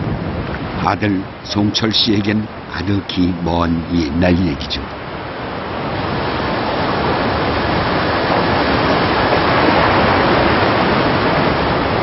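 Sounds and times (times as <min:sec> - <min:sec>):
choppy sea water rushing: 0:00.0 - 0:12.0
wind: 0:00.0 - 0:12.0.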